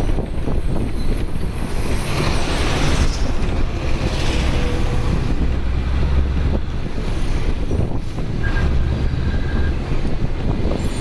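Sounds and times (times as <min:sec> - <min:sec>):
diesel engine rumbling: 0:00.0 - 0:11.0
wind on microphone: 0:00.0 - 0:11.0.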